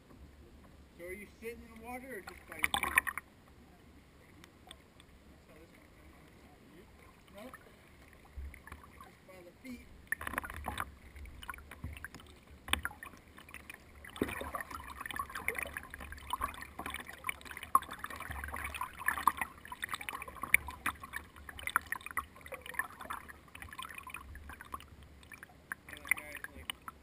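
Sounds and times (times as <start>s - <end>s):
water splashing against a kayak: 0.0s - 27.0s.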